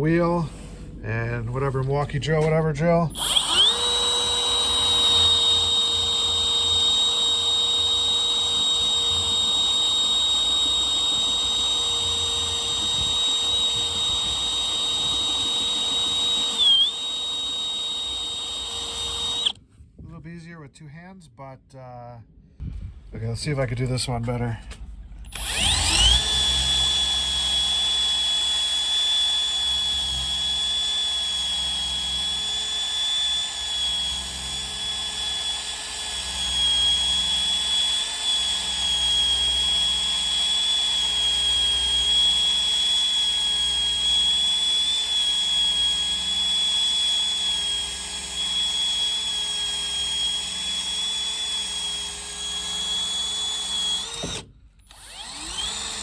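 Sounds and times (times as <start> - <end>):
drill whining under load: 3.1 - 19.6, 25.2 - 56.0.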